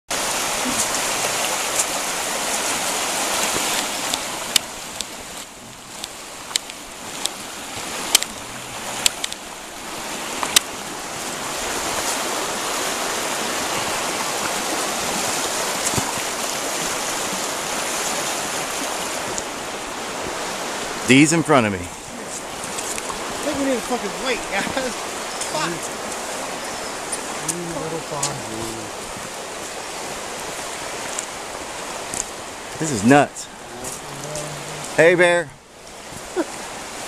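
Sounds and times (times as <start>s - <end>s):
river rushing over rocks: 0.1s - 37.0s.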